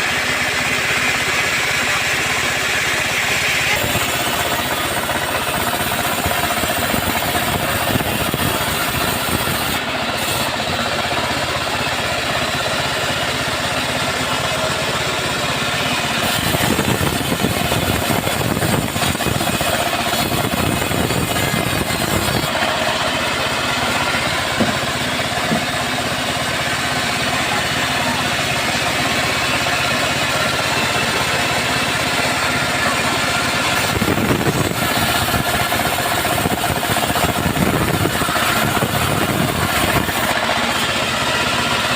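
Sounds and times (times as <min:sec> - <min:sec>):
band sawmill cutting wood: 0:00.0 - 0:41.9.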